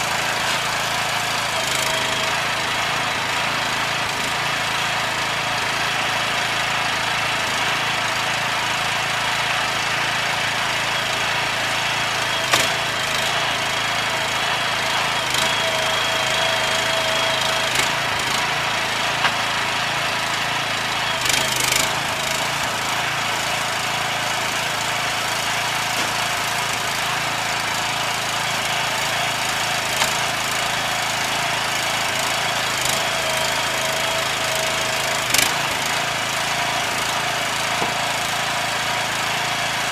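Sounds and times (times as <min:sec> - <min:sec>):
machine motor running: 0:00.0 - 0:39.9.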